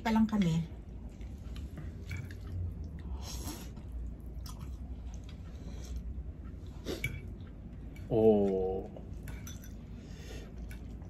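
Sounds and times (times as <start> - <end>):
low steady hum: 0.0 - 11.0
people chewing noodles: 0.7 - 11.0.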